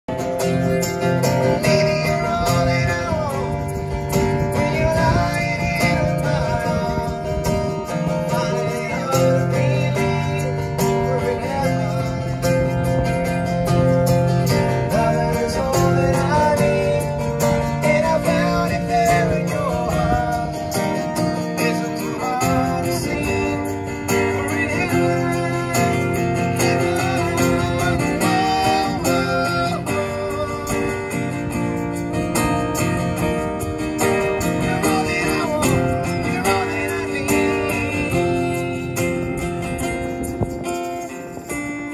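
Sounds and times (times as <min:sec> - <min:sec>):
strummed acoustic guitar: 0:00.1 - 0:41.9
person singing: 0:01.0 - 0:31.6, 0:34.1 - 0:41.9.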